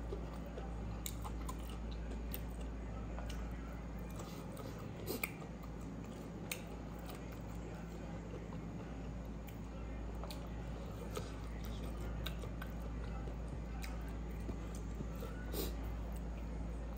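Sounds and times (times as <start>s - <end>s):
close-up chewing: 0.0s - 16.9s
steady low hum: 0.0s - 16.9s.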